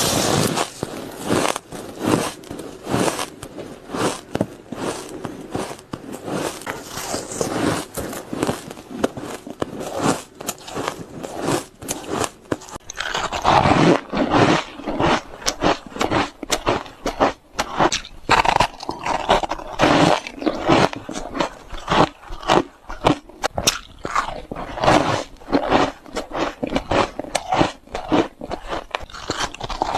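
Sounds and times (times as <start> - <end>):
ice crunching in mouth: 0.0 - 29.9.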